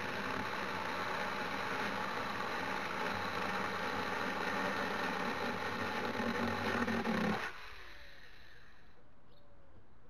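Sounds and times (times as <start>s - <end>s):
electric chainsaw running: 0.0s - 8.8s.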